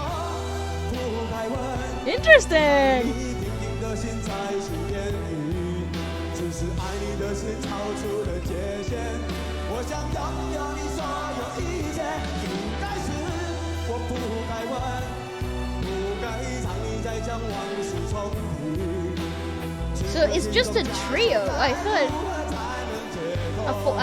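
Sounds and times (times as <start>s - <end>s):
man singing: 0.0s - 24.0s
rock band playing live: 0.0s - 24.0s.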